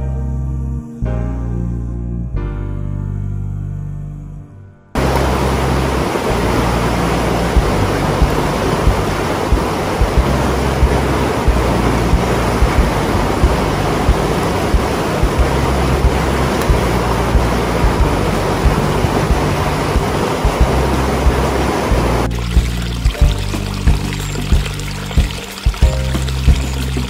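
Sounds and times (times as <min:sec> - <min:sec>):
river rapids rushing: 0:05.0 - 0:27.0
wind buffeting microphone: 0:05.0 - 0:27.0.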